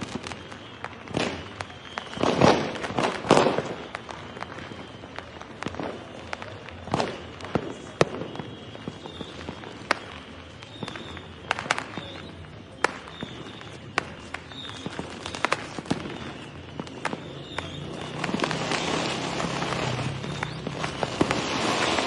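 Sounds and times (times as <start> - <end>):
firecracker bangs: 0.0 - 22.0.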